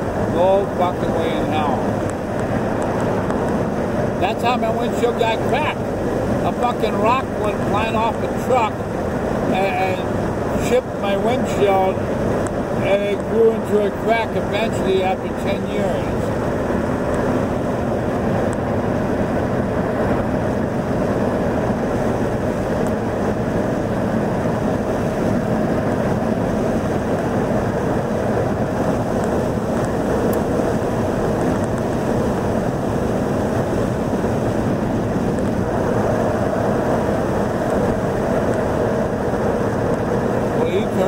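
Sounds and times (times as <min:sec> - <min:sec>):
car cabin road noise: 0:00.0 - 0:41.0.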